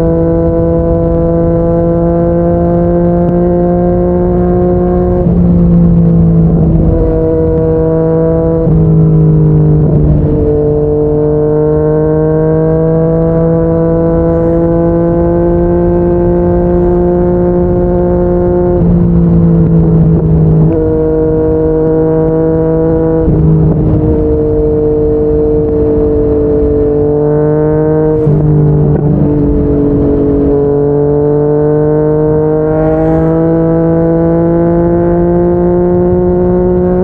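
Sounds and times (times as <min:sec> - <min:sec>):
motorcycle engine at speed: 0:00.0 - 0:37.0.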